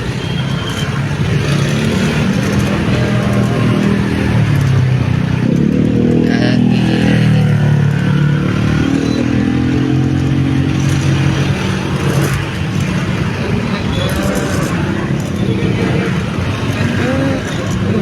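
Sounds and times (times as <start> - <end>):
road noise: 0.0 - 18.0
vehicle engine accelerating: 0.0 - 18.0.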